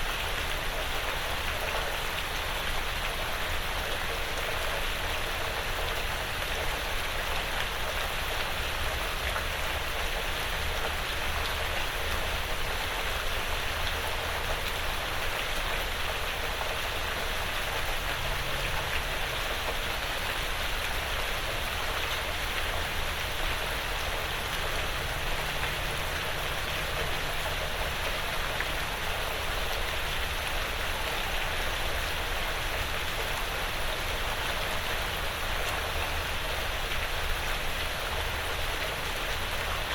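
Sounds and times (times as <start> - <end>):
gentle rain on a roof: 0.0 - 39.9.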